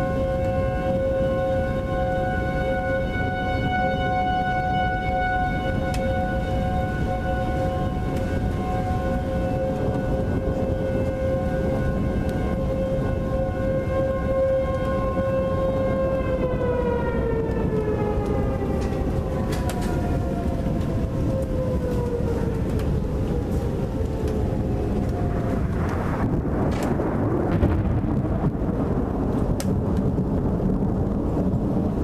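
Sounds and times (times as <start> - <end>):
heavy steady rumbling: 0.0 - 32.0
tornado siren winding down: 0.0 - 32.0.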